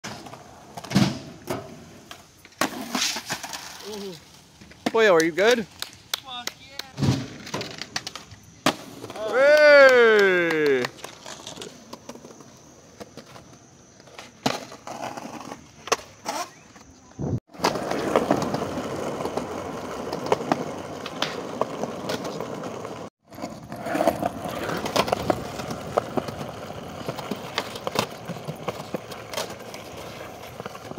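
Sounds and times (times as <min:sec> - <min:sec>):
skateboard wheels rolling on concrete: 0:00.0 - 0:30.9
skateboard clacking on ground: 0:00.1 - 0:16.6, 0:17.6 - 0:30.9.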